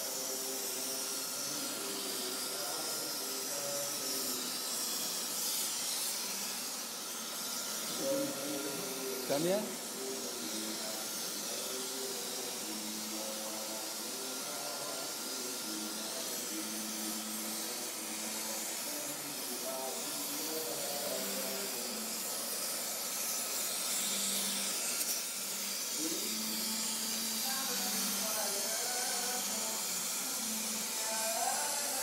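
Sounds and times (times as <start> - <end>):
gas torch flame hissing: 0.0 - 32.0.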